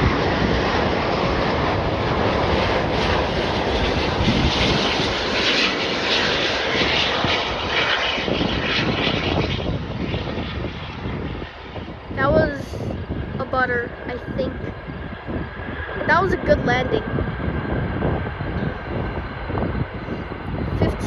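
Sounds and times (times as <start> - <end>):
jet plane landing: 0.0 - 21.0.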